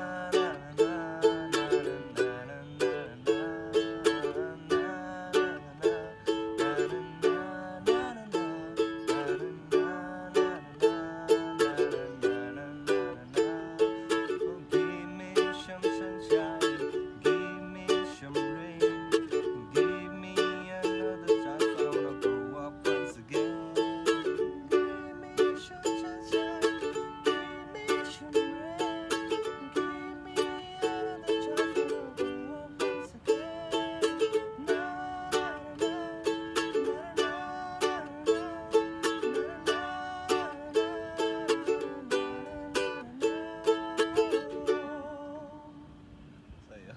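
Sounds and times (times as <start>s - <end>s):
plucked string instrument music: 0.0s - 46.4s.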